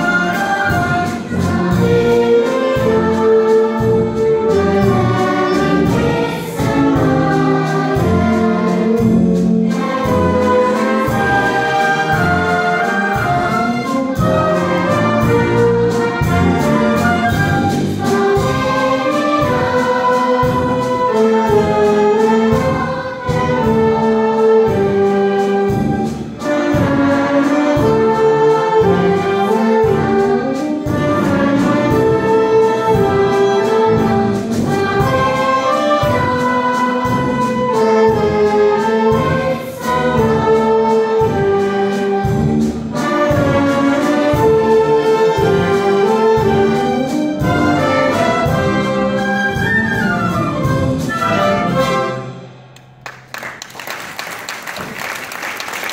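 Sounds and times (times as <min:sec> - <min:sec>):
children's choir singing: 0:00.0 - 0:49.3
orchestra playing a song: 0:00.0 - 0:55.9.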